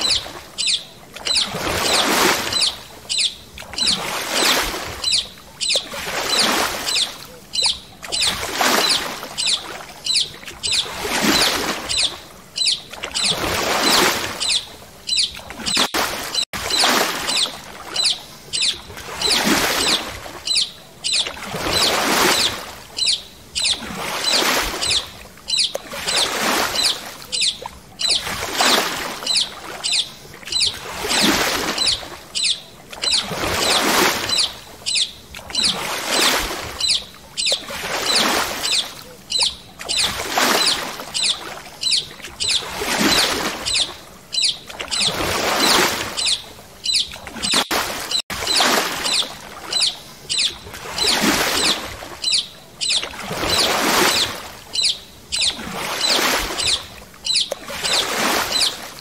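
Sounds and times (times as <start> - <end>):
birds chirping: 0.0 - 58.9
water swishing and splashing: 0.0 - 59.0.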